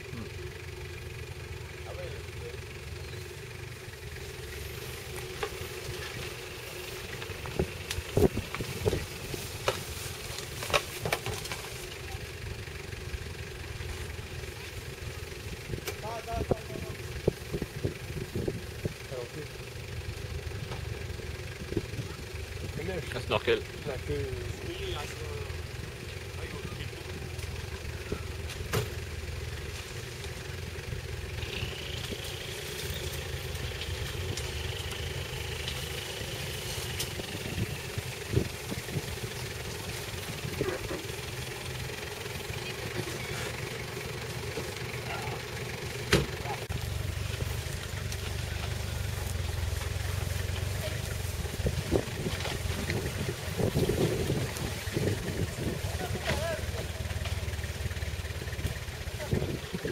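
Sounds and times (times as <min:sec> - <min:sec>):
engine rumbling at low revs: 0:00.0 - 0:59.9
branches cracking and scraping: 0:03.2 - 0:19.0, 0:24.9 - 0:59.9.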